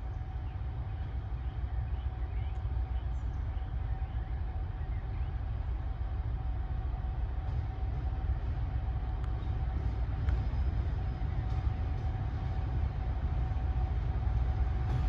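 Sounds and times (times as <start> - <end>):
faint steady whine: 0.0 - 15.0
train rumbling: 0.0 - 15.0.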